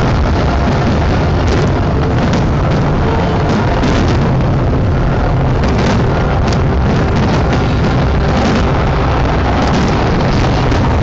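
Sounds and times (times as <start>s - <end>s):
fireworks bursting: 0.0s - 11.0s
fireworks cracks and crackling: 0.0s - 11.0s.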